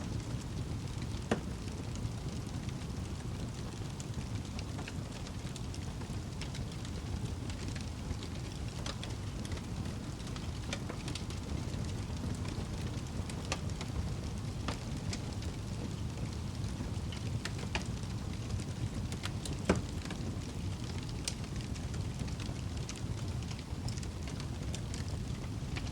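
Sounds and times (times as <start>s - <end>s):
fire crackling and popping: 0.0s - 25.9s
fire rumbling: 0.0s - 25.9s.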